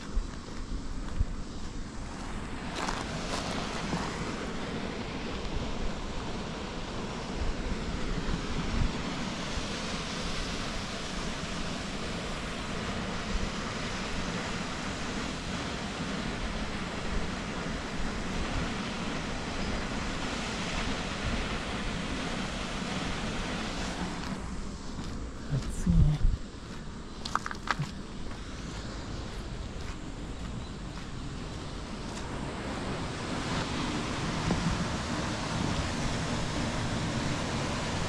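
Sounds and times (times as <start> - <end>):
steady rushing hiss: 0.0 - 38.0
wind buffeting microphone: 0.0 - 38.0.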